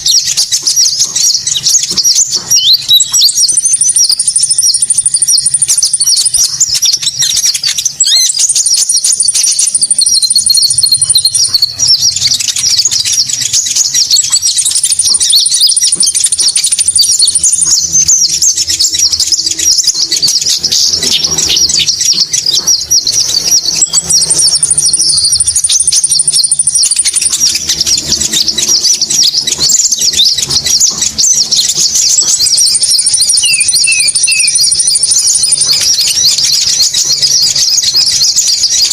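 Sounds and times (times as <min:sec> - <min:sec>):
high bird chirping: 0:00.0 - 0:38.9
thin high bird trill: 0:00.0 - 0:38.9.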